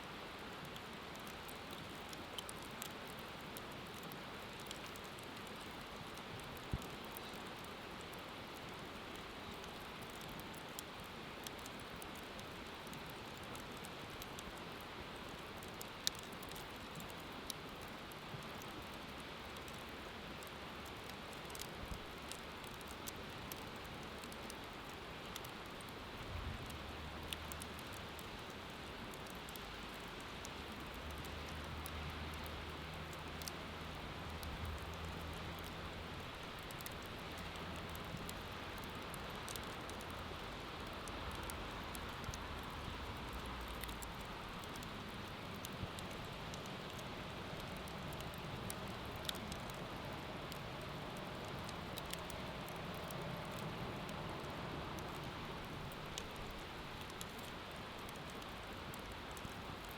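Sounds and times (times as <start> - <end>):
wood bonfire crackling: 0.1 - 59.9.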